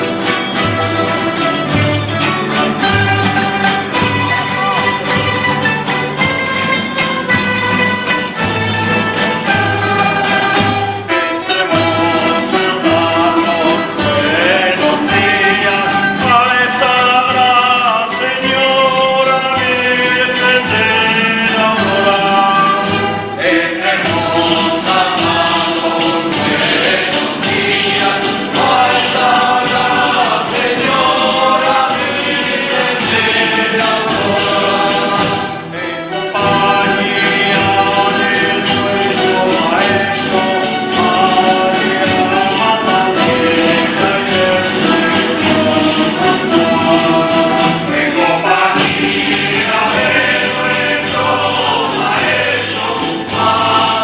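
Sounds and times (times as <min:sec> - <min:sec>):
group of voices singing: 0:00.0 - 0:54.0
string instruments: 0:00.0 - 0:54.0
tambourine-like percussion: 0:00.0 - 0:54.0.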